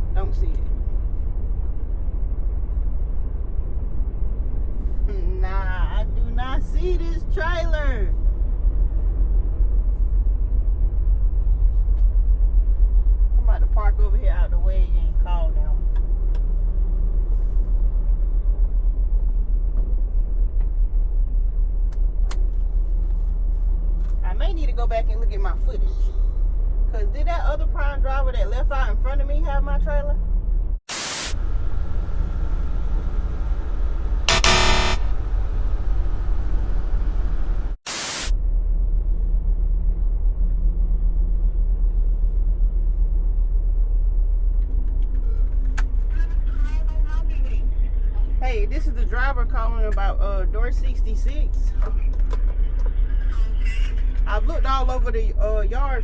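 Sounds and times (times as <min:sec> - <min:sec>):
diesel engine rumbling: 0:00.0 - 0:30.8, 0:31.4 - 0:56.0.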